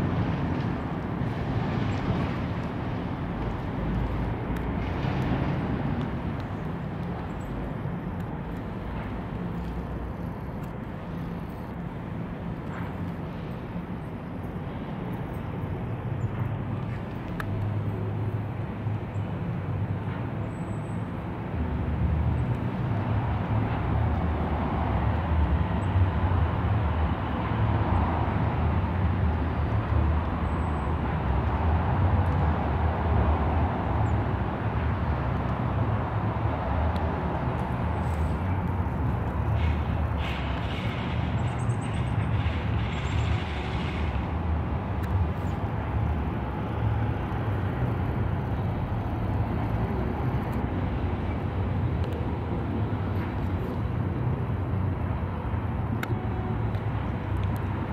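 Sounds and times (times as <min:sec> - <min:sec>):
low rumble of motor traffic: 0:00.0 - 0:57.9.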